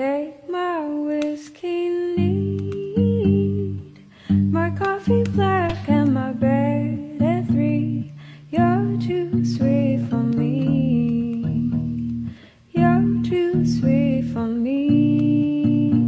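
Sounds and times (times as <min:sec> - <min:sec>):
person singing: 0:00.0 - 0:16.0
plucked guitar: 0:02.0 - 0:16.0.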